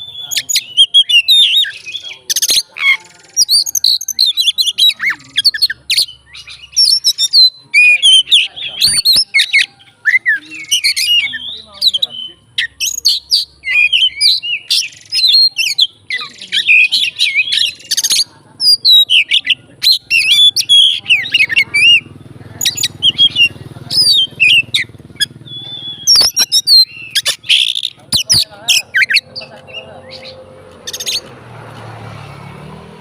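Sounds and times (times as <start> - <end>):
songbird singing varied song: 0.0 - 33.0.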